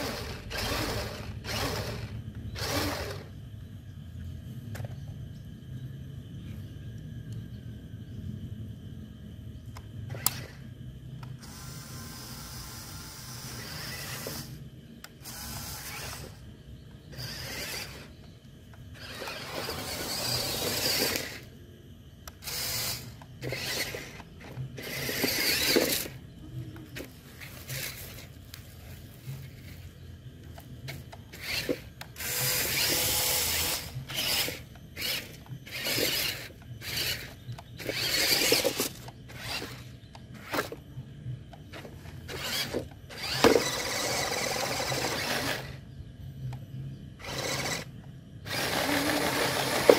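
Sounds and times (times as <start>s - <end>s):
electric motors whirring: 0.0s - 3.5s, 9.7s - 21.6s, 22.2s - 49.9s
steady low hum: 0.0s - 49.9s.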